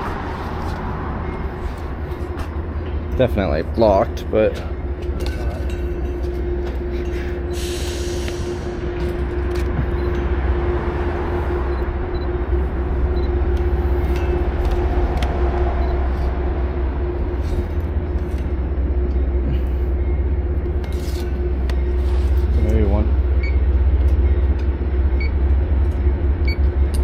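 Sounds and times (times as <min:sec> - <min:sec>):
vehicle rumble and droning hum: 0:00.0 - 0:27.0.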